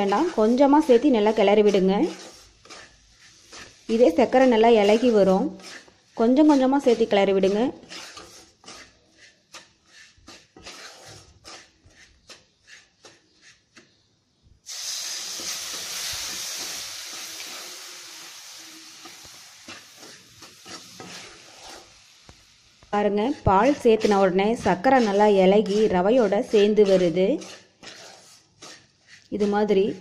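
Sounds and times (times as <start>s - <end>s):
milk sizzling with loud hiss: 0.0s - 11.8s, 14.6s - 30.0s
wooden spatula scraping dry grains: 0.0s - 14.1s, 14.7s - 30.0s.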